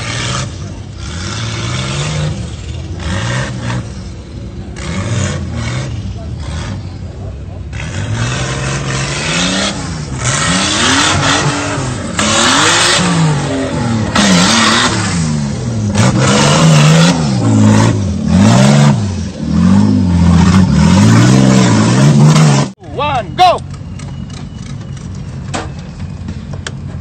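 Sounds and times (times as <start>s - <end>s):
engine revving: 0.0s - 22.8s.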